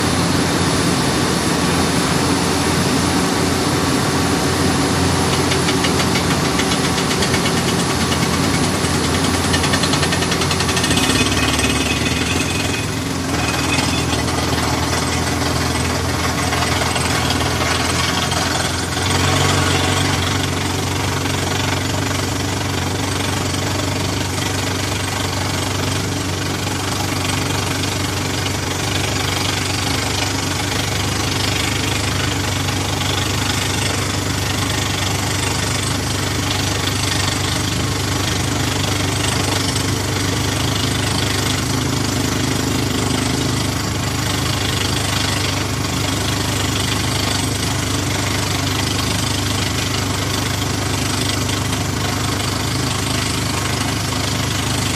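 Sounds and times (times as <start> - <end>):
drill rig engine running: 0.0 - 54.9
drill hammering: 4.6 - 54.9.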